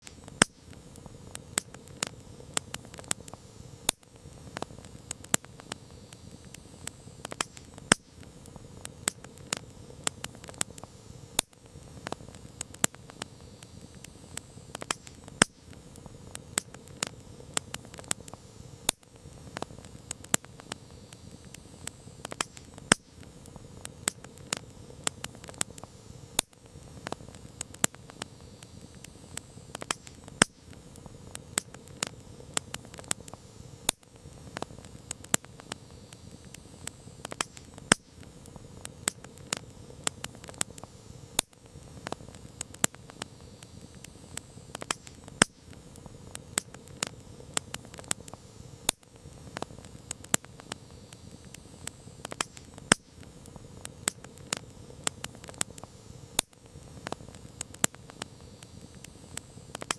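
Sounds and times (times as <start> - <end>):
campfire crackling and popping: 0.0 - 59.9
soft hiss of flames: 0.0 - 59.9.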